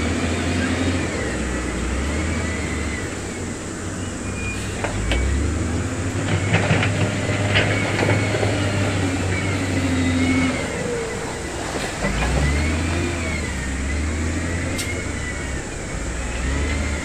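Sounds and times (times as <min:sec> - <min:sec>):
diesel engine under load: 0:00.0 - 0:17.0
faint high squeals: 0:00.4 - 0:17.0.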